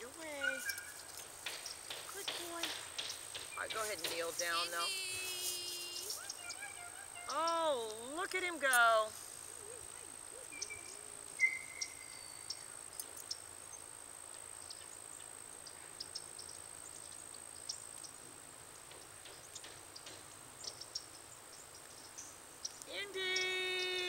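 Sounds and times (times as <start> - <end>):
faint high insect whine: 0.0 - 24.0.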